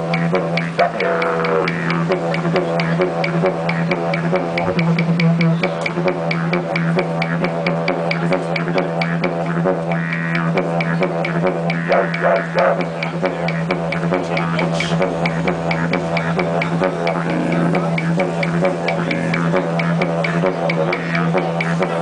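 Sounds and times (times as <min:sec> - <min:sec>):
didgeridoo drone: 0:00.0 - 0:22.0.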